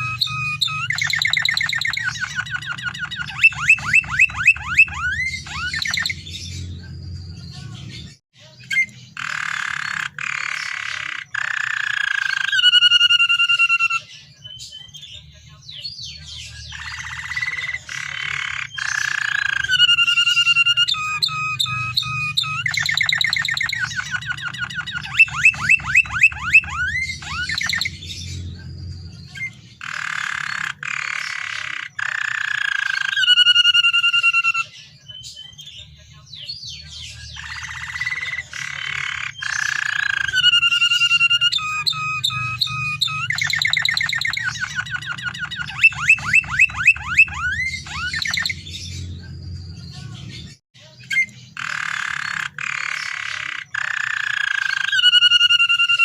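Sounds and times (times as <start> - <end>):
canary singing trills and whistles: 0.0 - 56.0.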